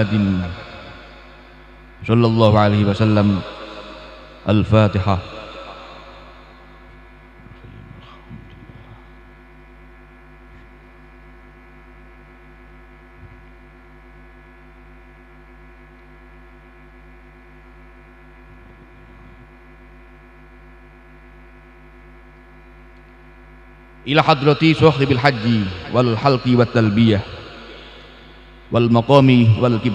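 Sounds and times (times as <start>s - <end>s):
electrical hum from sound system: 0.0s - 29.9s.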